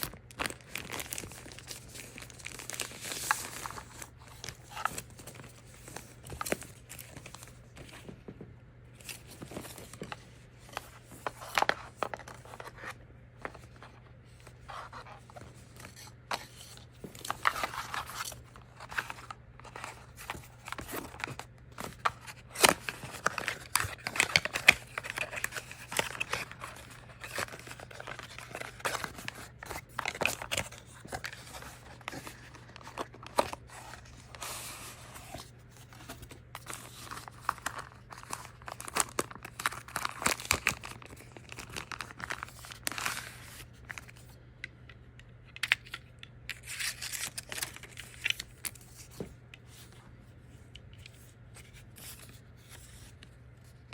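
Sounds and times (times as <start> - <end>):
plastic and paper crinkling: 0.0 - 44.4, 45.6 - 50.0.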